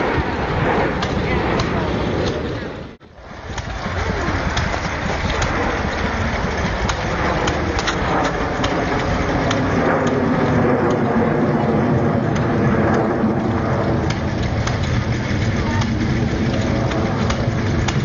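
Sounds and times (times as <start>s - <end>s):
jets flying overhead: 0.0s - 18.0s.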